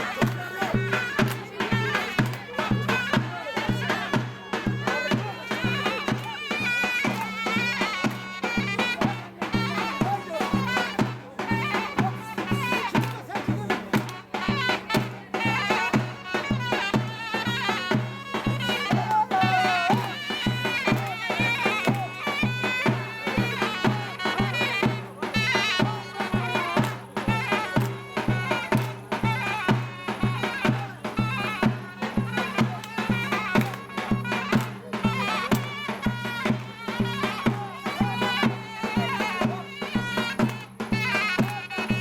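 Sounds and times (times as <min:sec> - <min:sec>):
shrill reed pipe melody: 0:00.0 - 0:42.0
steady drumbeat: 0:00.0 - 0:42.0.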